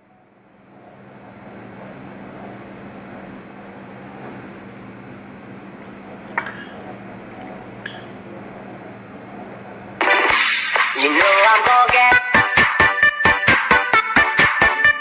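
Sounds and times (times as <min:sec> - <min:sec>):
low background hum: 0:00.0 - 0:13.4.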